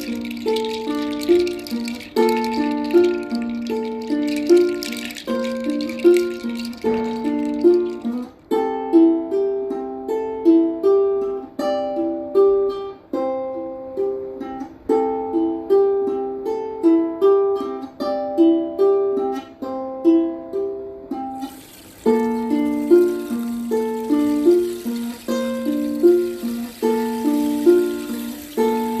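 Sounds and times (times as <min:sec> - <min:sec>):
plucked string instrument melody: 0:00.0 - 0:29.0.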